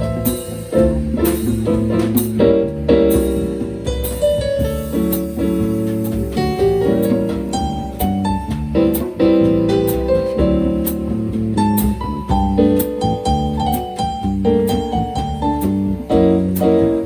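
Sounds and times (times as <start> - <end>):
live piano music: 0.0 - 17.0
low bass line: 0.0 - 17.0.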